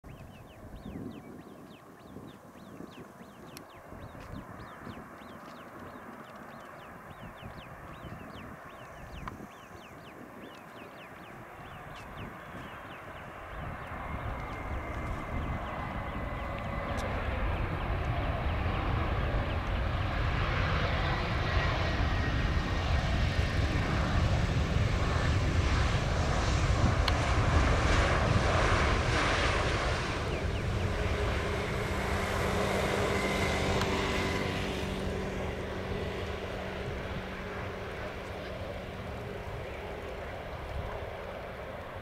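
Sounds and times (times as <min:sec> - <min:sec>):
jet engines roaring: 0:00.1 - 0:42.0.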